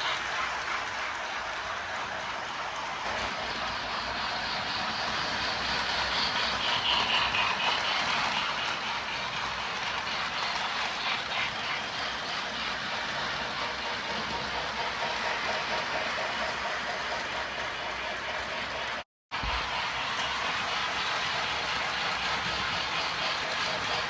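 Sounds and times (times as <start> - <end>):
toy train rolling on track: 0.0 - 24.0.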